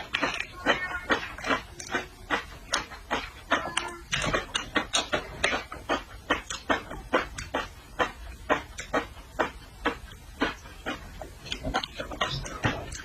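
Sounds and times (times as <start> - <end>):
chewing with wet mouth smacks: 0.0 - 13.0.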